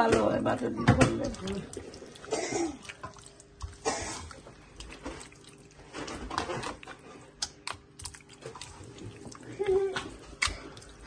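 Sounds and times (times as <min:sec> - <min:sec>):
water splashing and running: 0:00.9 - 0:11.0.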